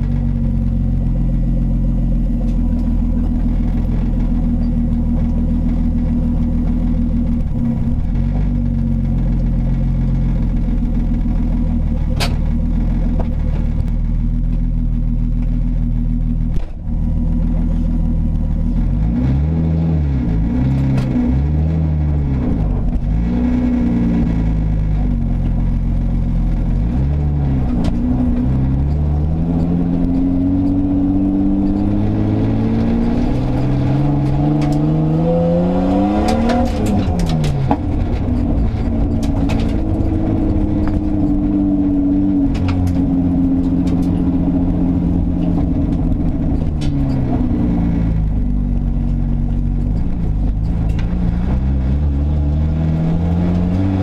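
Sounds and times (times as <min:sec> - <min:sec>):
loud car engine revving: 0:00.0 - 0:54.0.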